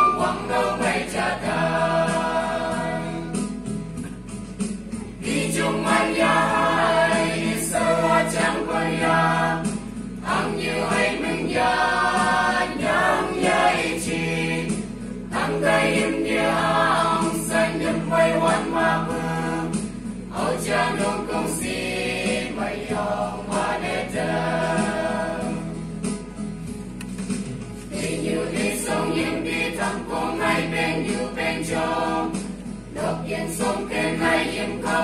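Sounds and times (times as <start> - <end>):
mixed choir singing in harmony: 0.0 - 3.8, 5.1 - 26.2, 27.9 - 35.0.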